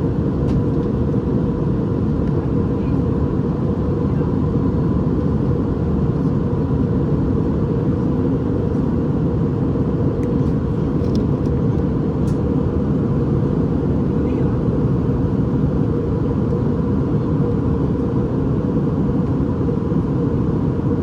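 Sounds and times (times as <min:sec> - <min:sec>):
airplane engine and airflow noise: 0:00.0 - 0:21.0.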